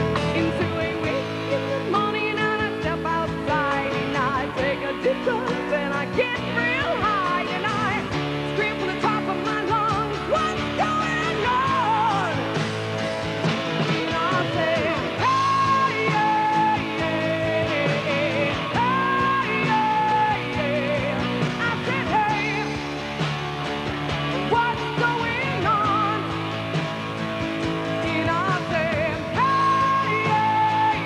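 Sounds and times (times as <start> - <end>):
rock music with wavering lead: 0.0 - 31.0.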